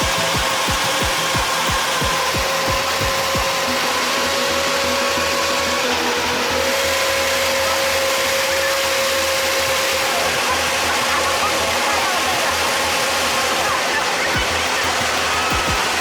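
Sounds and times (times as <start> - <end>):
motor with high whine: 0.0 - 16.0.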